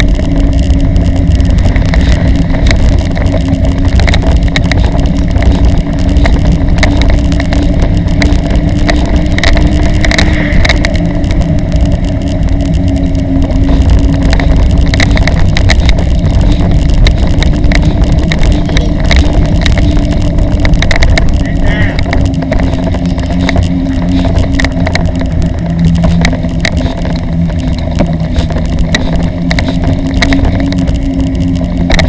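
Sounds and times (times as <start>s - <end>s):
trailer clicks and rattles: 0.0s - 32.0s
wind buffeting microphone: 0.0s - 32.0s.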